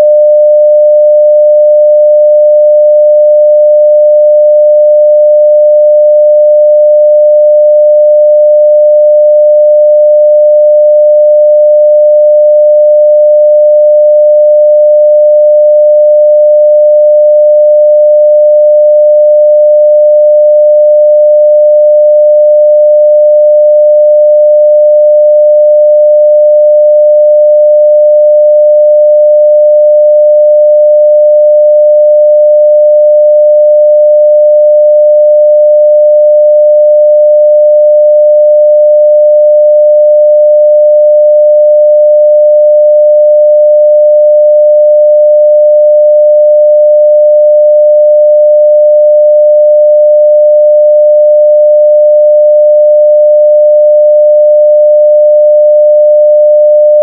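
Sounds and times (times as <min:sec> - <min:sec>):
sine-wave test tone: 0:00.0 - 0:57.0.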